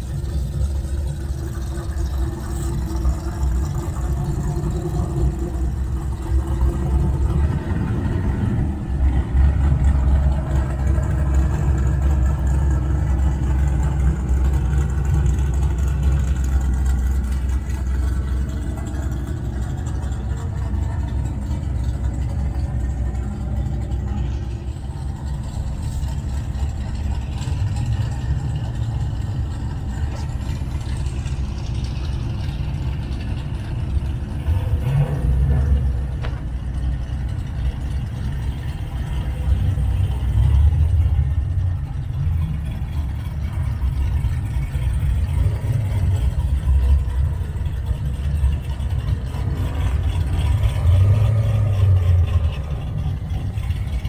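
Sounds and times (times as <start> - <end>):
car engines at low revs: 0.0 - 54.0.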